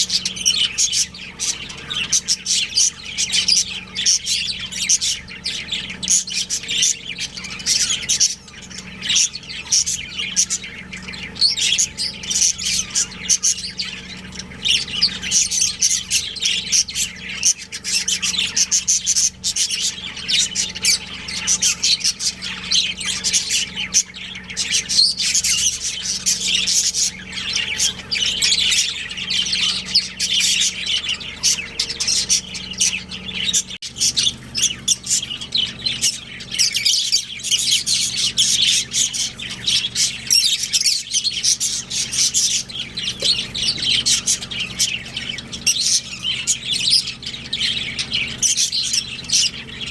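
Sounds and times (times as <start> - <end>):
budgerigars chirping: 0.0 - 49.9.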